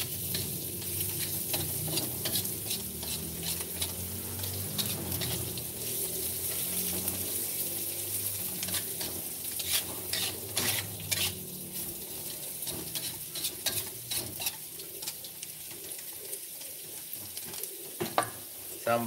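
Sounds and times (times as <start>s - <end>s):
spatula scraping and tapping wok: 0.0s - 18.6s
food sizzling in hot oil: 0.0s - 19.0s.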